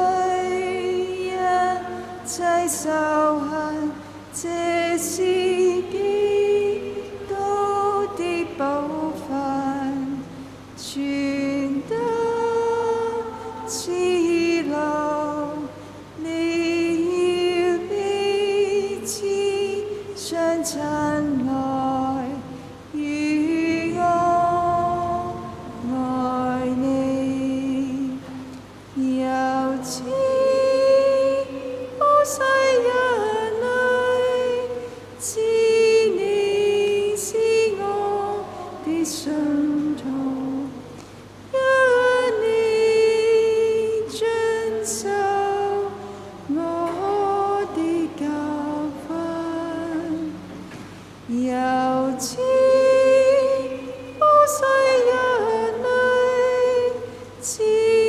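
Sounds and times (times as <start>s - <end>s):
women singing a slow hymn: 0.0s - 58.0s.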